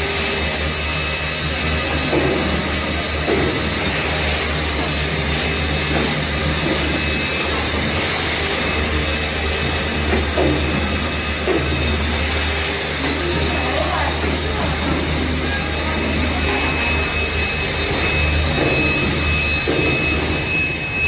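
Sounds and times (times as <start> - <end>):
production machinery running: 0.0 - 21.0.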